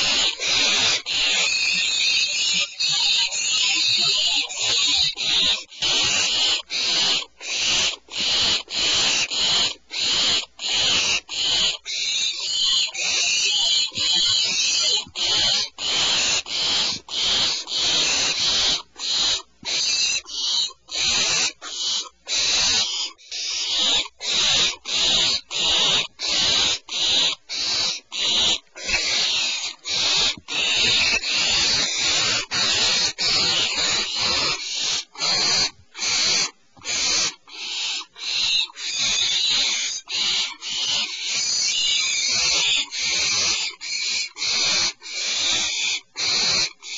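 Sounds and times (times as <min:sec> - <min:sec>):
owls rasping hiss calls: 0:00.0 - 0:46.9.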